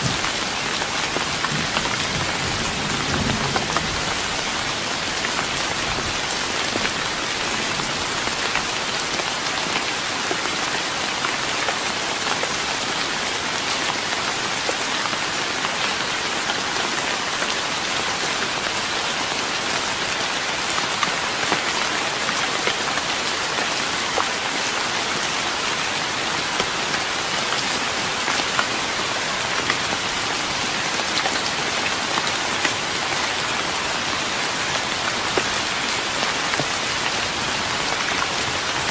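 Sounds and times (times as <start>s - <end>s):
rain on a wooden deck: 0.0s - 38.9s.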